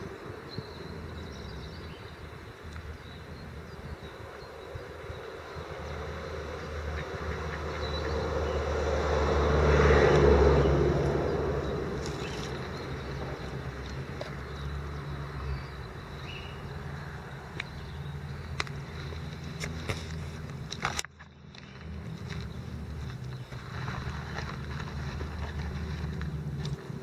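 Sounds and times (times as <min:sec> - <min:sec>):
motor vehicle passing by: 0:04.7 - 0:27.0.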